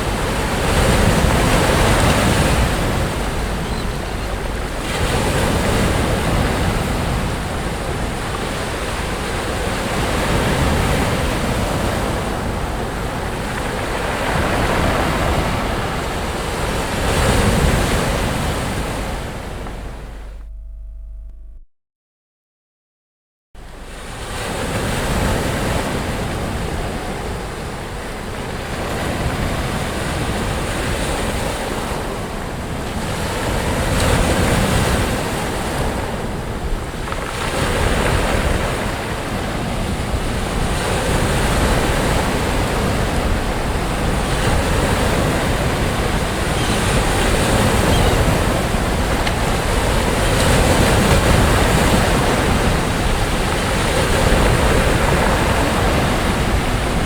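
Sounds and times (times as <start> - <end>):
sea waves breaking on beach: 0.0 - 20.2, 23.6 - 57.0
wind on microphone: 0.0 - 21.0, 23.6 - 57.0.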